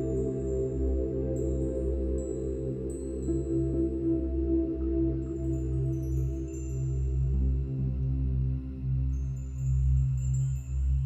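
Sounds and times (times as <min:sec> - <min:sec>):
background music with low bass: 0:00.0 - 0:11.0.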